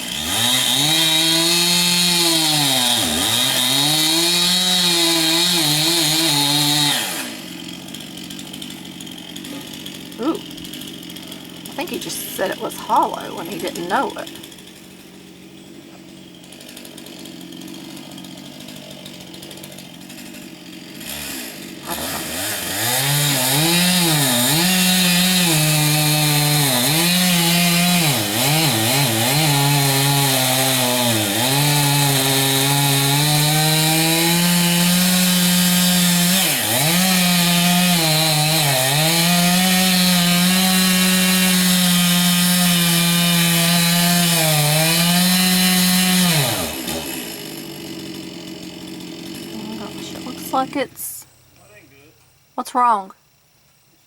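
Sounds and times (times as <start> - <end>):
chainsaw cutting into tree trunk: 0.0 - 51.5.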